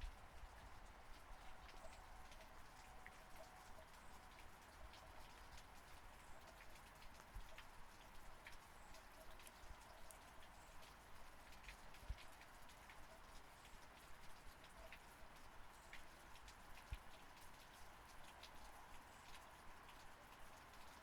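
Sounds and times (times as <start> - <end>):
soft rain hiss: 0.0 - 21.0.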